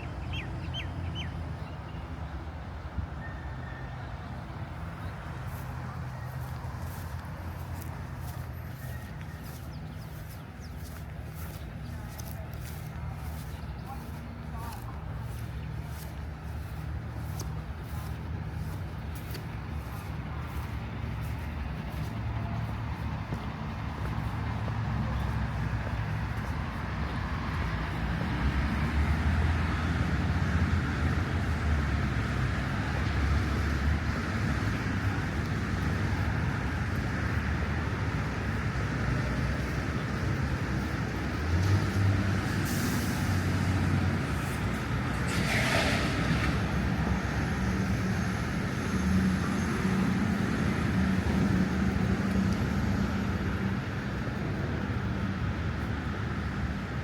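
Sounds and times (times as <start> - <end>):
rumble of passing vehicles: 0.0 - 57.0.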